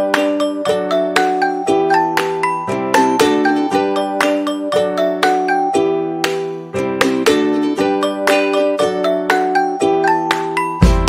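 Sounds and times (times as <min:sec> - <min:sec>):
plucked and bell-like music: 0:00.0 - 0:11.0.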